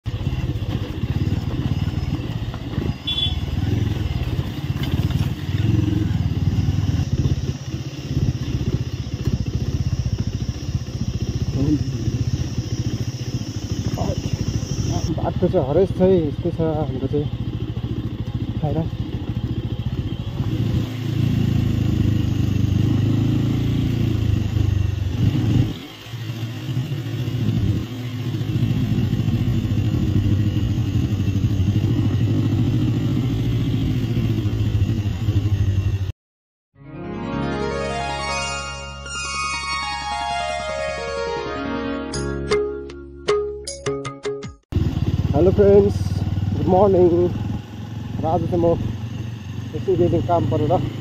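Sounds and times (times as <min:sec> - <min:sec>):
motorcycle engine running: 0:00.0 - 0:36.1, 0:44.7 - 0:51.0.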